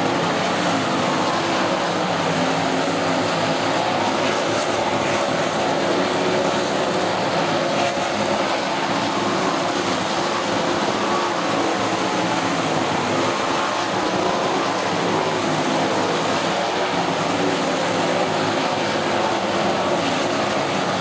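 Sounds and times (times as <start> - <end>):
racing car engines roaring: 0.0 - 21.0.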